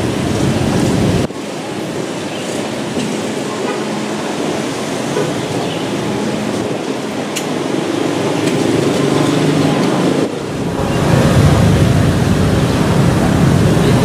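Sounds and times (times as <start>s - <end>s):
turboprop aircraft engine drone: 0.0s - 14.0s.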